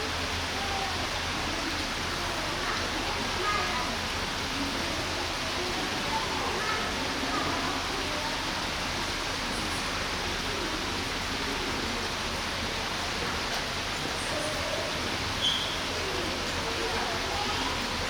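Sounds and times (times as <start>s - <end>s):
faint murmuring voices: 0.0s - 18.0s.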